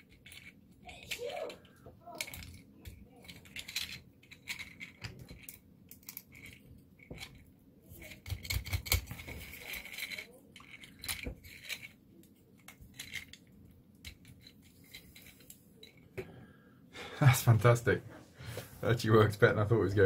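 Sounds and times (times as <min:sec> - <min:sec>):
plastic parts clicking and rattling: 0:00.0 - 0:16.1.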